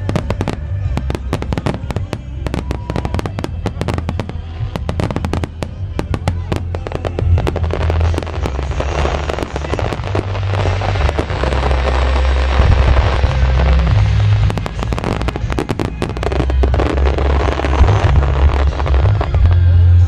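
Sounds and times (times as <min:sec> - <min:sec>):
fireworks bursting and crackling: 0:00.0 - 0:20.0
music with heavy bass: 0:00.0 - 0:20.0.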